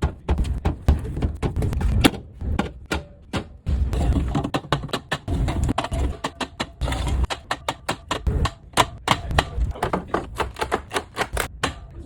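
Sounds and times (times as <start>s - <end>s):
cans and bottles clinking on shelves: 0.0s - 12.0s.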